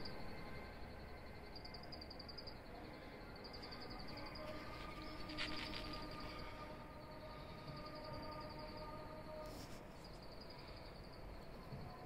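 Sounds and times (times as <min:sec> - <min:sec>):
faint steady multi-tone hum: 0:00.0 - 0:12.0
insects chirping in trills: 0:00.0 - 0:12.0
outdoor background hiss: 0:00.0 - 0:12.0.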